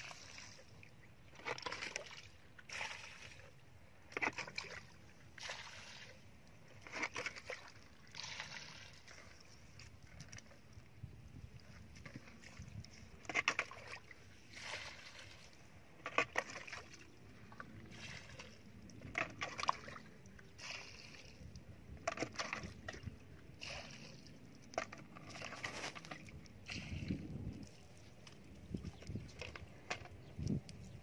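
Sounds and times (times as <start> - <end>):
muddy water sloshing: 0.0 - 31.0.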